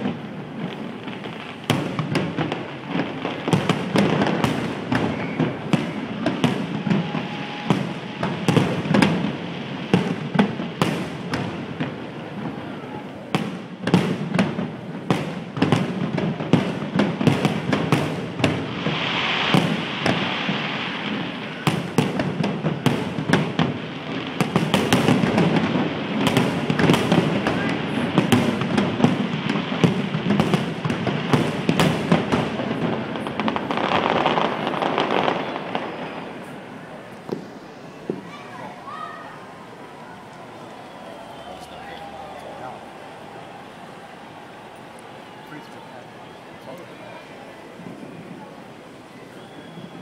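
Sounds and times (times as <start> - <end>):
fireworks bursting: 0.0 - 50.0.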